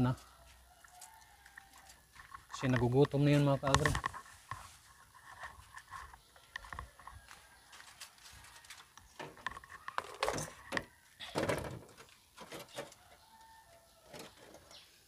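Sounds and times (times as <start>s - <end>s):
rustling in rabbit cage: 0.0s - 15.0s.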